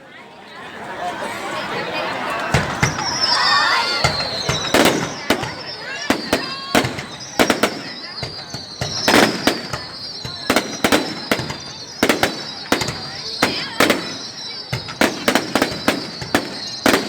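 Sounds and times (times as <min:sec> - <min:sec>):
fireworks crackling: 0:02.1 - 0:17.0
fireworks bangs: 0:02.2 - 0:17.0
high-pitched whistle: 0:02.5 - 0:17.0.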